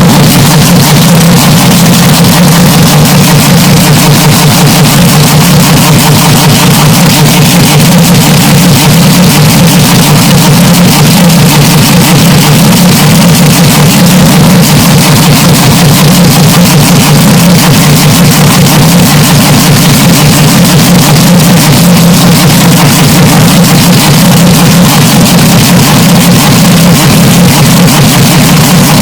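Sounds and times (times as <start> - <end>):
distorted engine drone: 0.0 - 29.0.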